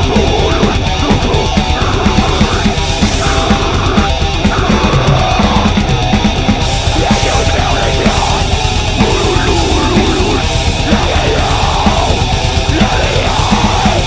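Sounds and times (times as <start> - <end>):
distorted guitars: 0.0 - 14.0
heavy metal band playing: 0.0 - 14.0
pounding drums: 0.0 - 14.0.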